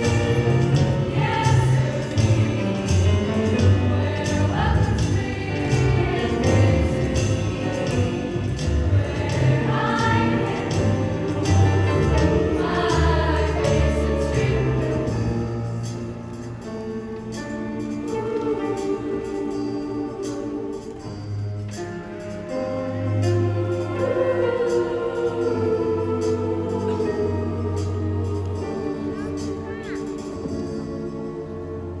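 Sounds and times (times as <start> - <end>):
choir singing a cappella: 0.0 - 15.9, 17.4 - 21.5, 22.3 - 32.0.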